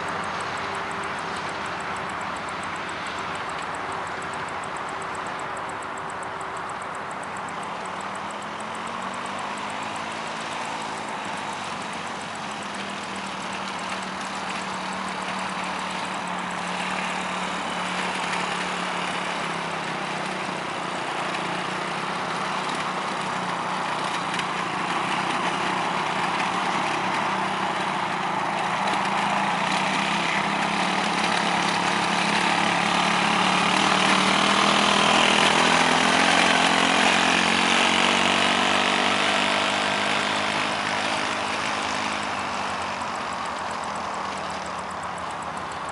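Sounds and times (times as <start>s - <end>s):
quad bike engine running: 0.0s - 45.9s.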